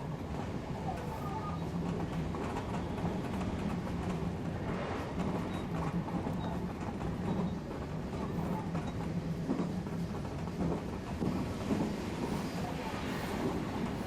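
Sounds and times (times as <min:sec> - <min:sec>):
low train hum: 0:00.0 - 0:14.0
train wheels rumbling on rails: 0:00.0 - 0:14.0.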